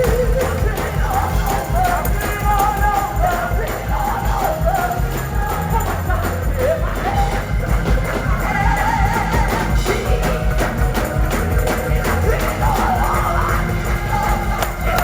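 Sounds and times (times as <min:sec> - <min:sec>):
gospel choir singing: 0:00.0 - 0:15.0
live band with drums: 0:00.0 - 0:15.0.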